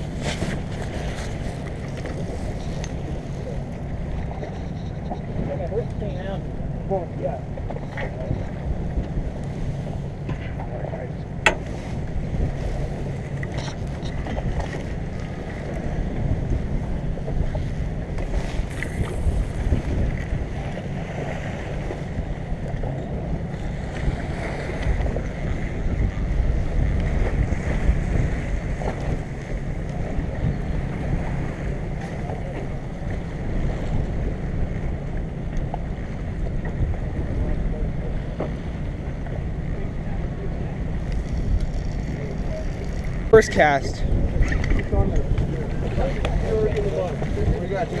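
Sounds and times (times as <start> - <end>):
waves washing against hull: 0.0 - 48.0
wind buffeting microphone: 0.0 - 48.0.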